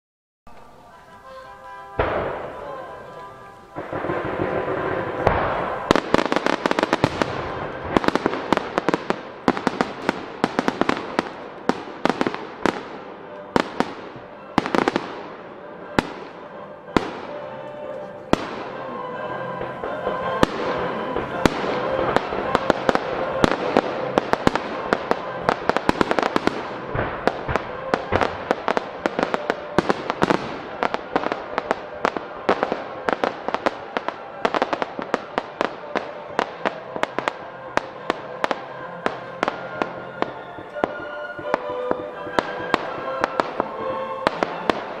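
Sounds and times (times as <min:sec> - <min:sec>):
fireworks bursting: 0:00.5 - 0:45.0
music playing: 0:00.5 - 0:45.0.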